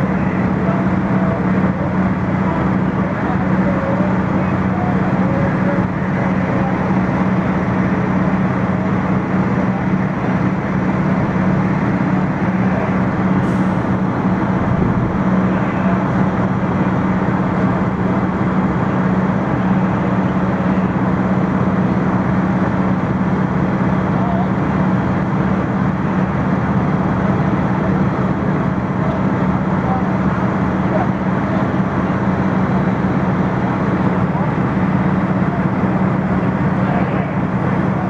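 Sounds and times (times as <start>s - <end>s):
diesel engines droning: 0.0s - 38.0s.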